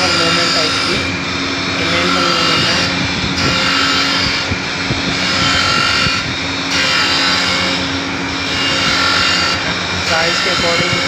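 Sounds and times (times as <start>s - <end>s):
grinding machine hum: 0.0s - 11.0s
grinding wheel on metal: 0.0s - 11.0s.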